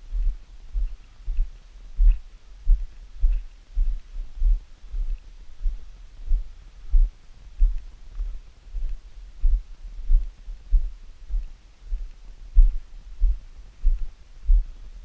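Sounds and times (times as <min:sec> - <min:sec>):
footsteps dull low thuds: 0:00.0 - 0:15.0.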